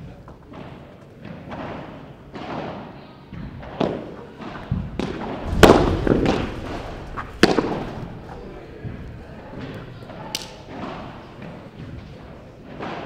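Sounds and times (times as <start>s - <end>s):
ball bouncing on court and walls: 0.0s - 13.0s
rackets hitting ball: 0.5s - 13.0s.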